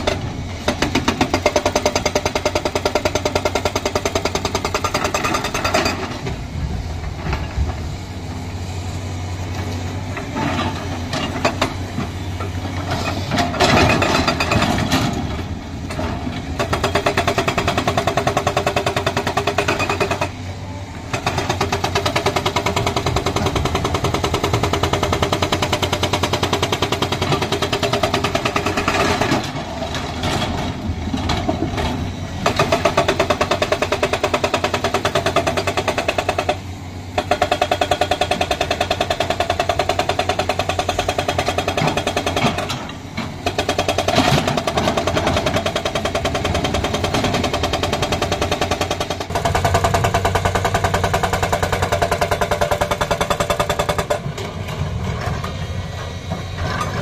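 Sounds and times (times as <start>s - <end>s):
hydraulic rock breaker hammering: 0.0s - 6.4s, 10.2s - 20.5s, 21.1s - 55.7s.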